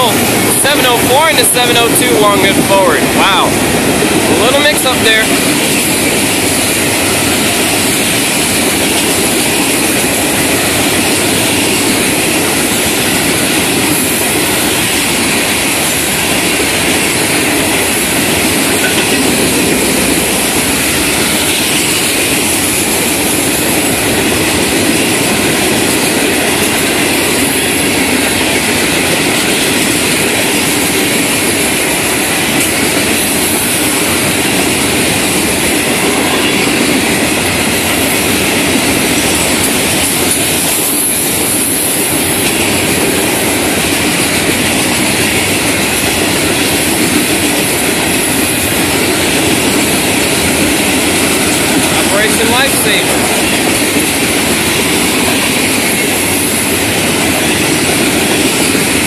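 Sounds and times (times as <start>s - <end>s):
steel wheels on rails: 0.0s - 59.0s.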